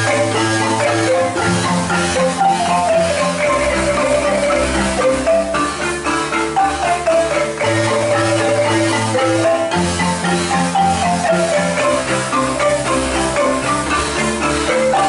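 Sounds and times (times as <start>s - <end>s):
bass marimba line: 0.0s - 15.0s
marimbas playing melody: 0.0s - 15.0s.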